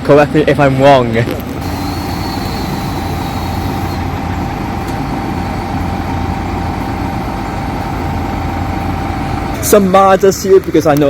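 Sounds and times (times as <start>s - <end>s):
coach engine rumbling: 0.0s - 11.0s.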